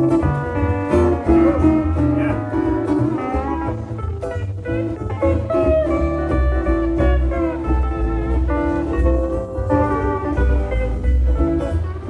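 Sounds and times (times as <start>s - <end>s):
bass line: 0.0s - 12.0s
plucked guitar: 0.0s - 12.0s.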